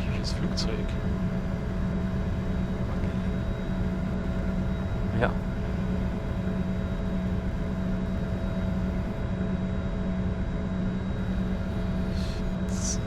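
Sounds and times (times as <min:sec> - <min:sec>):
faint steady tones: 0:00.0 - 0:13.0
jet engines idling: 0:00.0 - 0:13.0.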